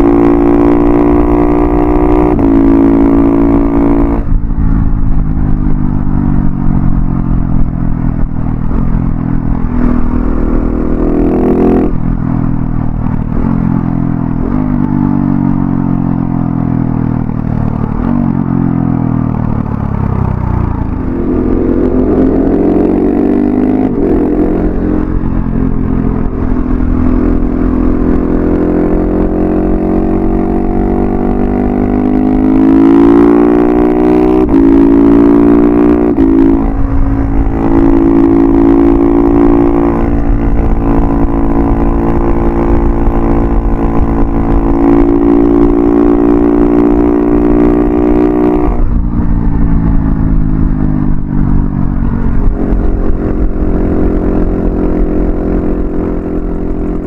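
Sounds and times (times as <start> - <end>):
motorcycle engine while riding: 0.0 - 57.0.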